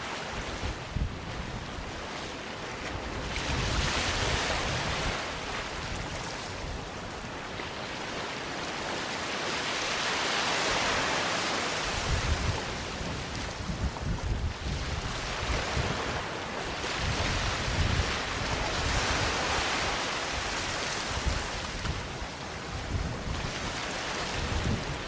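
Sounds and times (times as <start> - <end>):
sea waves on beach: 0.0 - 25.0.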